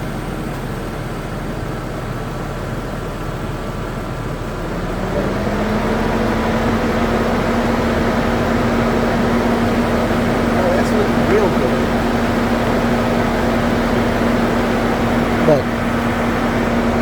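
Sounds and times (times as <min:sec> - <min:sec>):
car engine running: 0:00.0 - 0:17.0
rising hum of compressor: 0:00.0 - 0:17.0.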